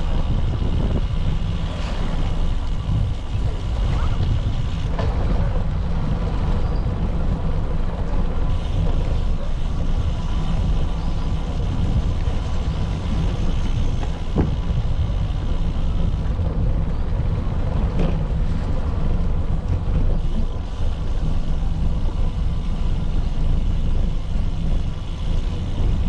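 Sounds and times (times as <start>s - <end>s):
road and traffic noise: 0.0s - 26.0s
wind rumble on microphone: 0.0s - 26.0s.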